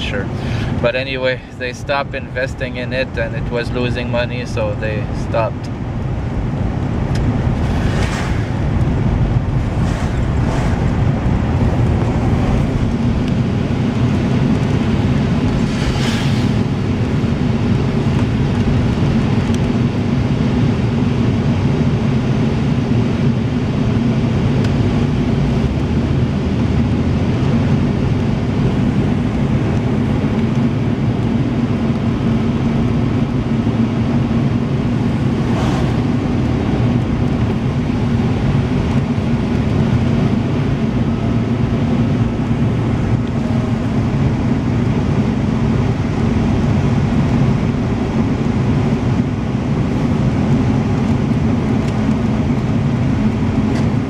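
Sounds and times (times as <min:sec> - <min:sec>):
engine and road noise: 0:00.0 - 0:54.0.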